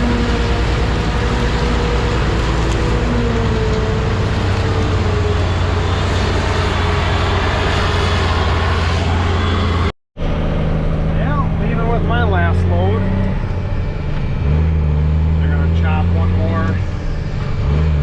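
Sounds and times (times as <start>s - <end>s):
heavy machinery engine running: 0.0s - 18.0s.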